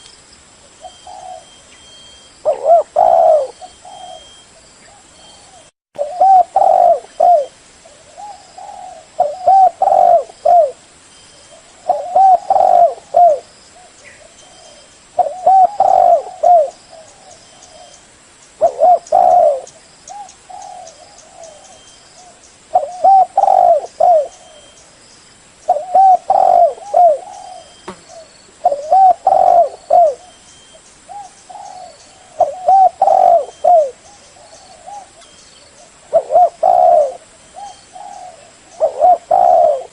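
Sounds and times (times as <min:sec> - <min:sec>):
dove cooing: 0:00.8 - 0:01.6, 0:02.4 - 0:10.8, 0:11.5 - 0:18.0, 0:18.6 - 0:24.8, 0:25.7 - 0:30.4, 0:31.1 - 0:39.9.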